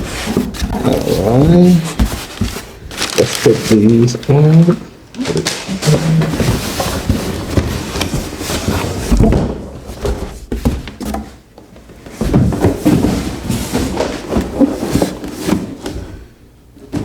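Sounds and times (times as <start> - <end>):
handling knocks and rustling: 0.0 - 17.0.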